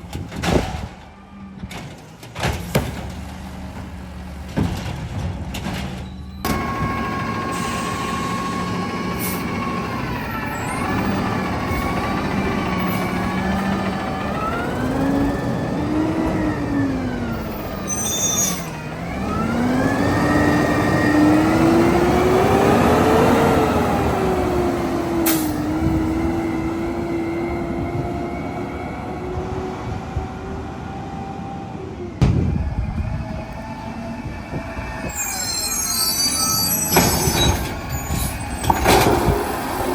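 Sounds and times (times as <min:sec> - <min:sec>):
garbage truck engine revving: 0:00.1 - 0:39.9.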